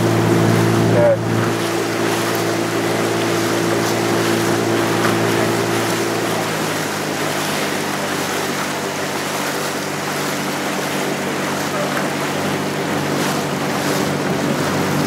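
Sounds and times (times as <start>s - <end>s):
outboard motor running: 0.0s - 15.0s
water noise: 0.0s - 15.0s
wind: 0.0s - 15.0s.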